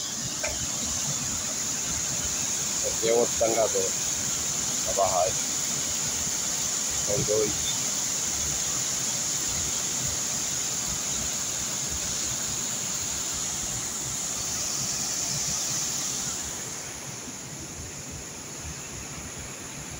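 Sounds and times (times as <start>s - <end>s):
water rushing down rocky stream: 0.0s - 18.2s.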